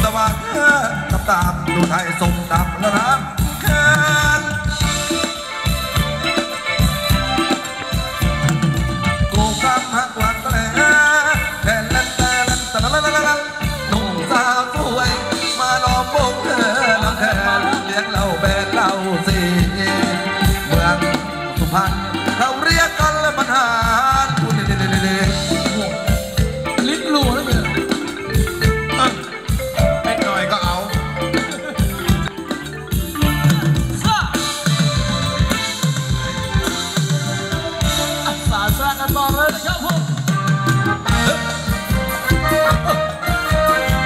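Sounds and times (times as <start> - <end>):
live band playing dance tune: 0.0 - 44.0
steady drum beat: 0.0 - 44.0
vibrato melody line: 0.0 - 44.0.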